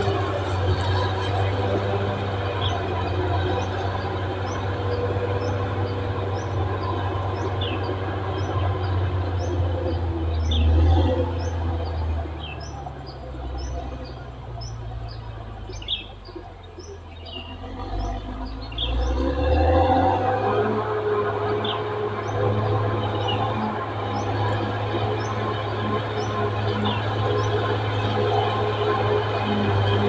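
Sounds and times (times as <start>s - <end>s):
bulldozer diesel engine rumbling: 0.0s - 30.0s.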